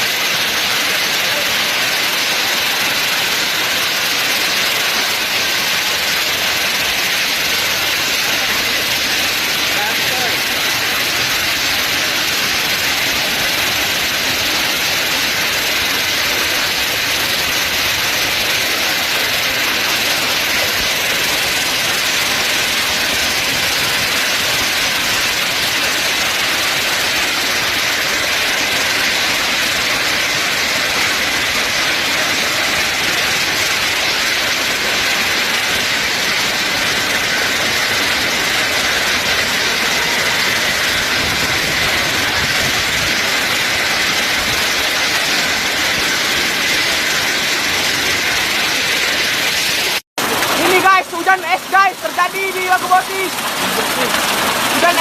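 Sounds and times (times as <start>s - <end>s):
heavy rain with hail: 0.0s - 55.0s.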